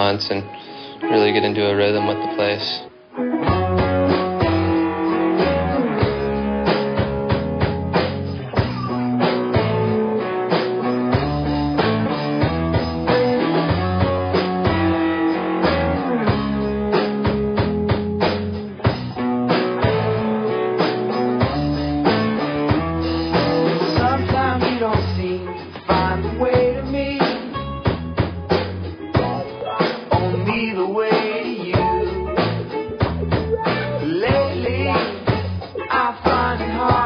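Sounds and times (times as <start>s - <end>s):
guitar: 0.0s - 37.0s
drum kit steady beat: 3.5s - 37.0s.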